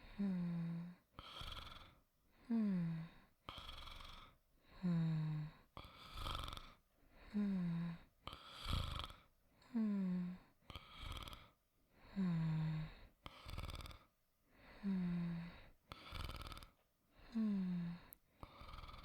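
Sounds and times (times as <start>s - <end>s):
person snoring softly: 0.0s - 19.0s.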